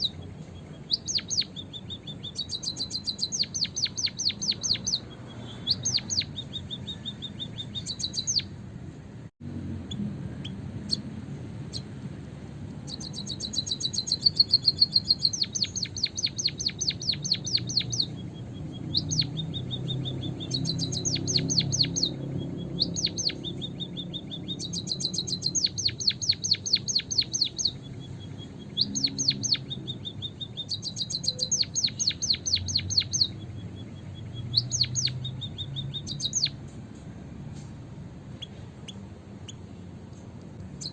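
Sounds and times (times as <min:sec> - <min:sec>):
birds chirping rapidly: 0:00.0 - 0:40.9.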